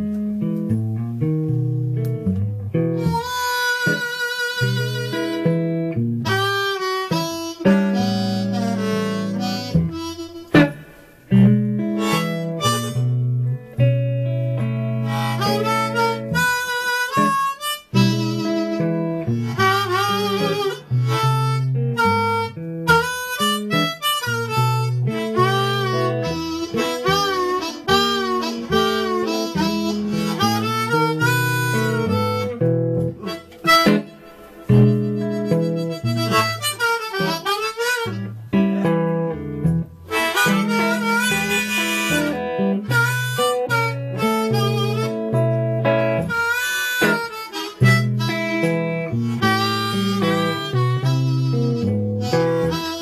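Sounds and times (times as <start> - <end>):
blues harmonica: 0.0 - 53.0
guitar accompaniment: 0.0 - 53.0.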